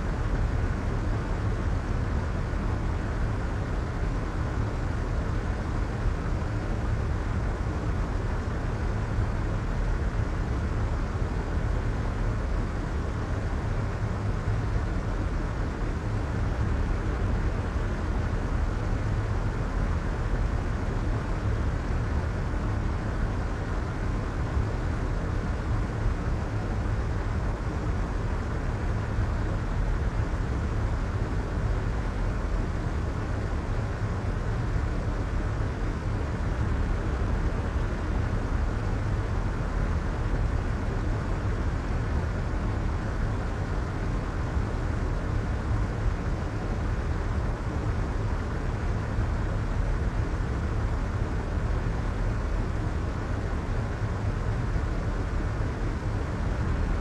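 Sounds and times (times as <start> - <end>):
soft white noise hiss: 0.0 - 57.0.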